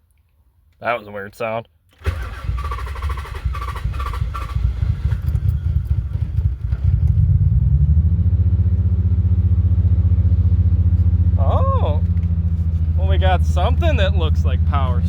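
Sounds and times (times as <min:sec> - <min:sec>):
car engine idling: 0:02.0 - 0:15.0.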